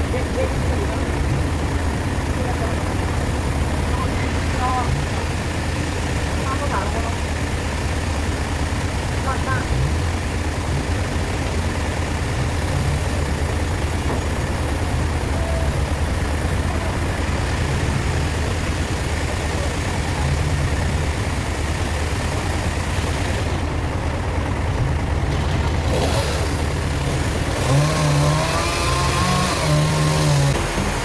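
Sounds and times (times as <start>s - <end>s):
heavy engine rumbling: 0.0s - 31.0s.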